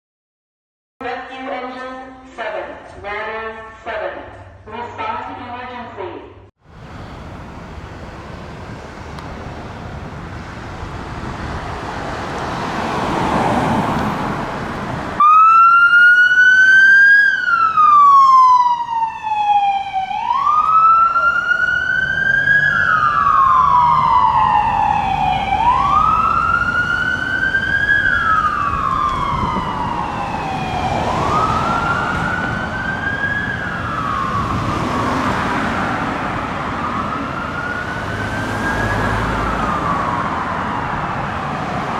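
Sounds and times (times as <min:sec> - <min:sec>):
road noise: 0:06.6 - 0:41.9
emergency vehicle siren wailing: 0:06.7 - 0:41.9.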